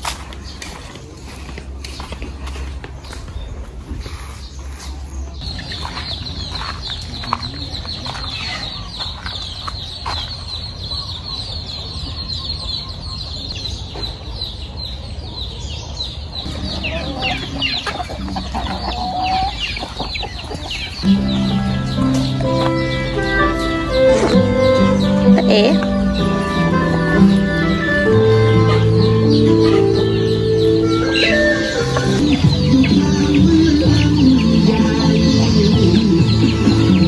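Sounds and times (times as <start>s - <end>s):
chickens clucking: 0.1s - 37.0s.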